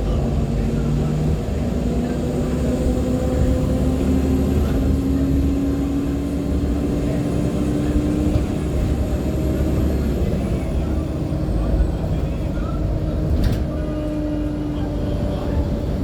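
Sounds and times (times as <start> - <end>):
bus drivetrain and road rumble: 0.0 - 16.0.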